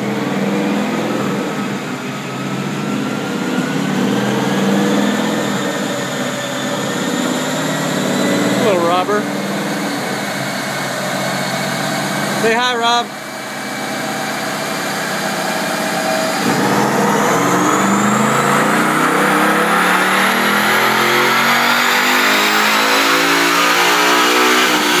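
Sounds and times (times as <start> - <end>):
car engine revving under full throttle: 0.0 - 25.0.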